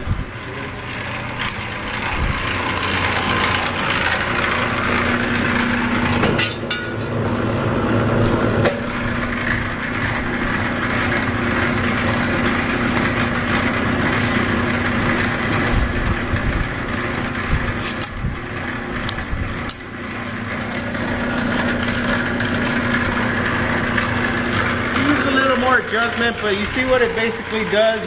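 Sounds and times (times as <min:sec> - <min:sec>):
steady hum: 0:00.0 - 0:28.0
wire stripping machine running: 0:00.0 - 0:28.0.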